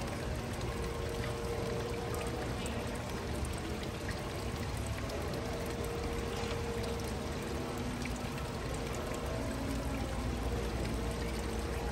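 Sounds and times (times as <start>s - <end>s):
running pouring water: 0.0s - 11.9s.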